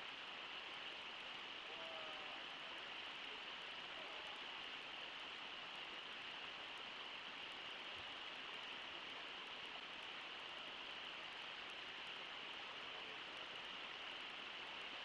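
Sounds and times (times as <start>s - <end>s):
faint rushing water: 0.0s - 15.0s.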